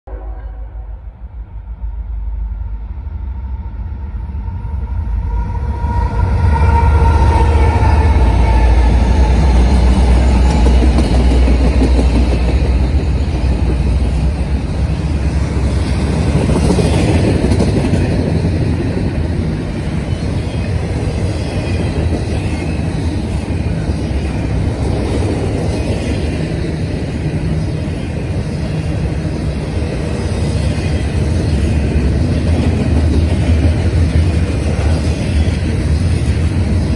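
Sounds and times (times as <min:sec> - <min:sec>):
diesel locomotives rumbling past: 0:00.1 - 0:36.9
freight cars rolling on rails: 0:05.6 - 0:36.9.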